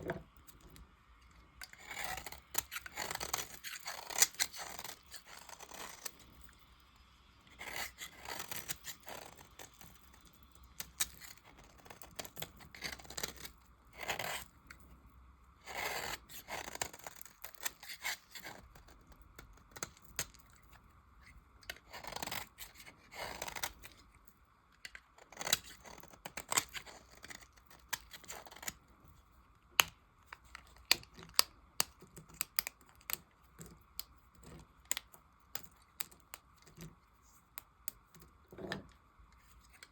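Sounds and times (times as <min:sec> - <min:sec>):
knife cutting soap: 0:01.5 - 0:06.8, 0:07.5 - 0:14.8, 0:15.6 - 0:24.0, 0:24.8 - 0:28.9, 0:29.7 - 0:39.9.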